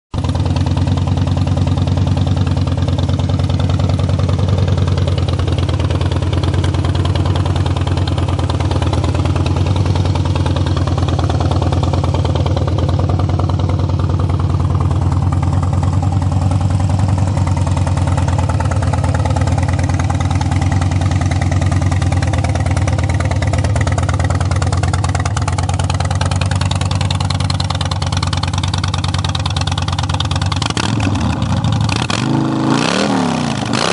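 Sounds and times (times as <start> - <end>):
motorcycle engine idling: 0.2 - 32.7.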